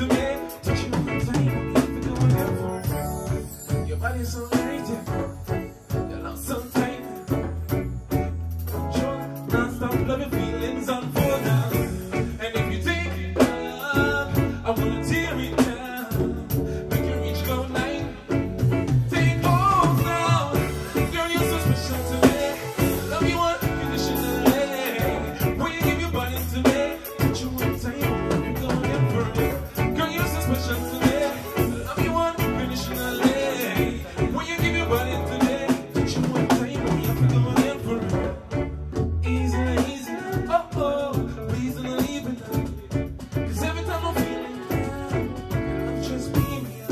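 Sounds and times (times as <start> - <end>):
man singing into microphone: 0.0 - 7.8, 8.8 - 46.9
drums with steady beat: 0.0 - 46.9
electric bass guitar: 0.0 - 46.9.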